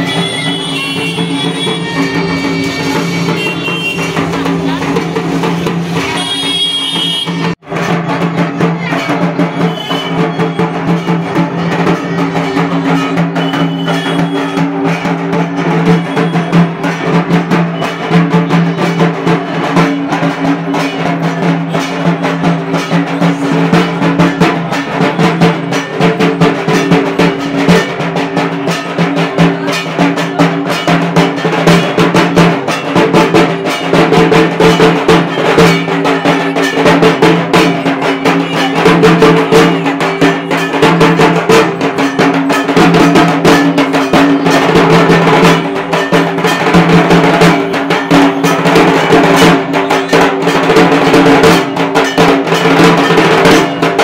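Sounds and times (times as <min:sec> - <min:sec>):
fast continuous drumming: 0:00.0 - 0:54.0.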